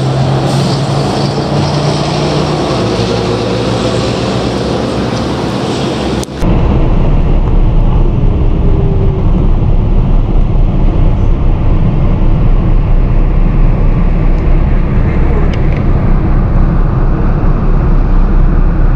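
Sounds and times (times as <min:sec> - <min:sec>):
electric train rumbling: 0:00.0 - 0:18.9
hissy train noise with whine: 0:00.0 - 0:18.9.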